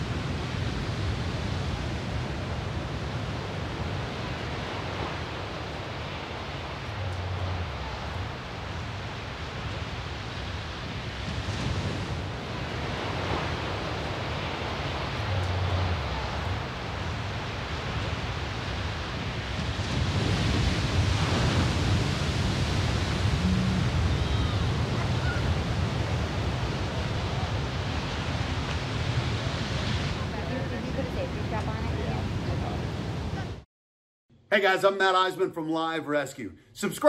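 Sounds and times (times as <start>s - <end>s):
ocean waves breaking on beach: 0.0s - 33.6s.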